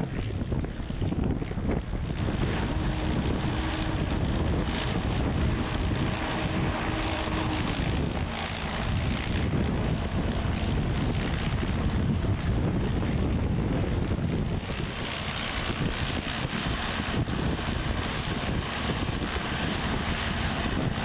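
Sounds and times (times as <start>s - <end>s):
tractor engine droning: 0.0s - 21.0s
wind buffeting microphone: 0.0s - 21.0s.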